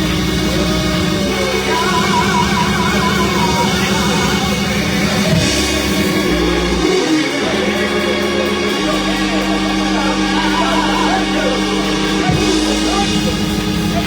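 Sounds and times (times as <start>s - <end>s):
sustained bass notes: 0.0s - 14.0s
wavering melody line: 0.0s - 14.0s.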